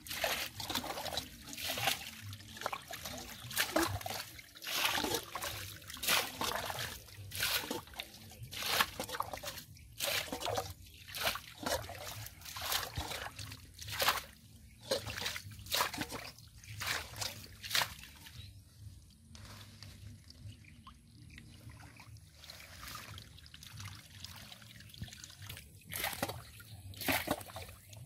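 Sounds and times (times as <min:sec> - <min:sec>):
muddy water trickling: 0:00.0 - 0:28.0
water splashes: 0:00.0 - 0:28.0.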